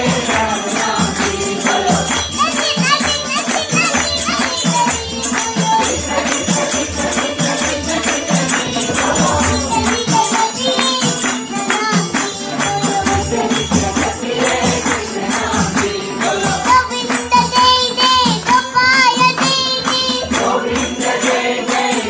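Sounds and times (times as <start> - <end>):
group devotional singing: 0.0 - 22.0
hands clapping in rhythm: 0.0 - 22.0.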